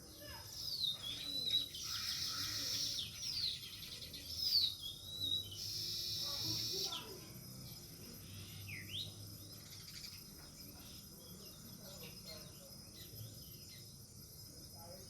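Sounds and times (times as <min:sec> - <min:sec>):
sparrows chirping: 0:00.0 - 0:15.0.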